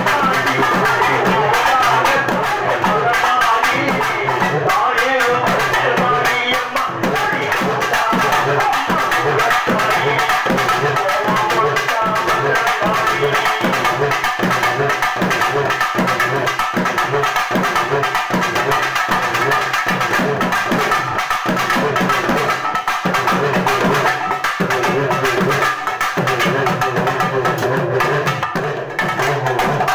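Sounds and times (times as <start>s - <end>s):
drum ensemble fast beat: 0.0s - 29.9s.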